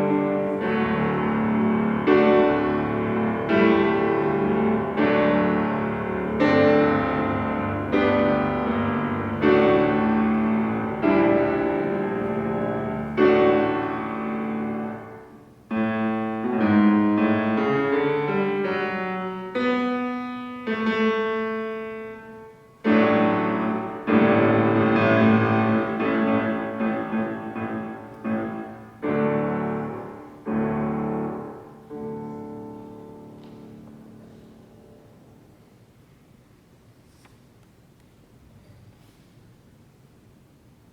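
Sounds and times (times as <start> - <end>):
solo piano chords: 0.0 - 36.0.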